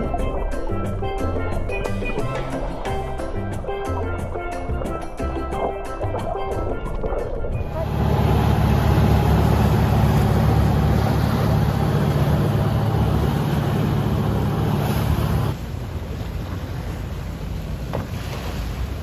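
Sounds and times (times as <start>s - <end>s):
water noise: 0.0s - 19.0s
motorboat engine running: 1.0s - 19.0s.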